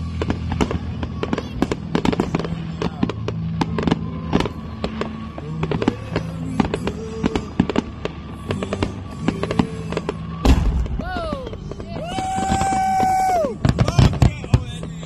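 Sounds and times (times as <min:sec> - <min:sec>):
background music: 0:00.0 - 0:15.0
fireworks bursting and crackling: 0:00.0 - 0:15.0.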